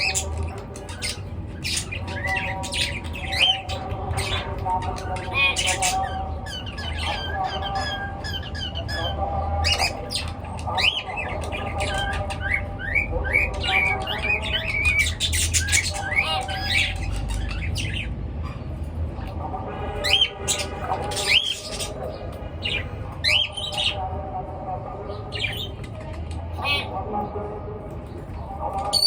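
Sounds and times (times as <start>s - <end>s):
pet birds chirping and squawking: 0.0s - 24.1s, 24.8s - 27.1s, 28.0s - 29.0s.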